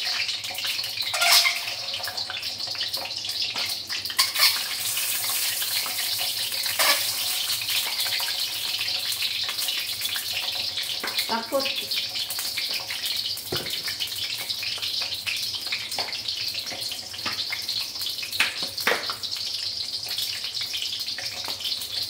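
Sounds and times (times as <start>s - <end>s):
eggs sizzling in hot oil: 0.0s - 22.0s.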